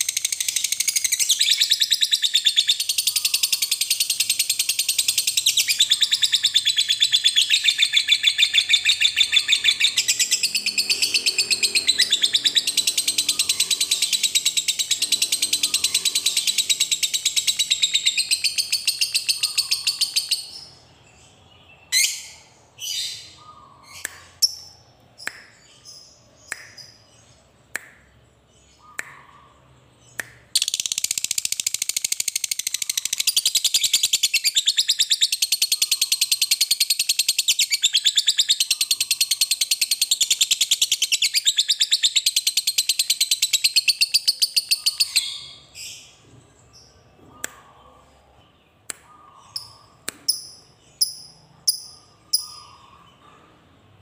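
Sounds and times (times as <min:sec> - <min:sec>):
bird sharp chirps: 0:00.0 - 0:53.5.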